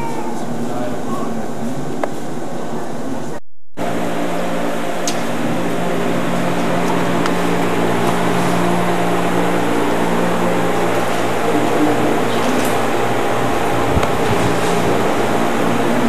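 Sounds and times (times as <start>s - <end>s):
droning hum: 0.0s - 16.0s.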